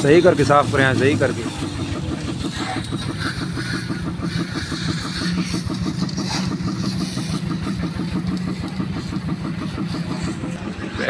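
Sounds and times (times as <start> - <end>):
pressure washer pump running: 0.0 - 11.0
water jet hissing: 0.0 - 11.0.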